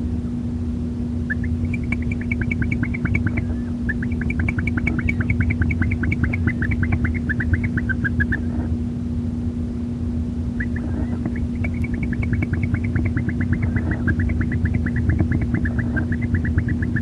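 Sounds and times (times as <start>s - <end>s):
steady low hum: 0.0s - 17.0s
owl chittering: 1.2s - 8.8s, 10.5s - 17.0s.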